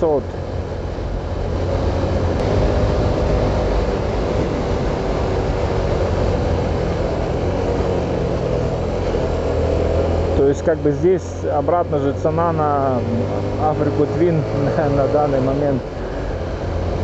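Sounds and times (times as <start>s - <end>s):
motorcycle engine hum: 0.0s - 17.0s.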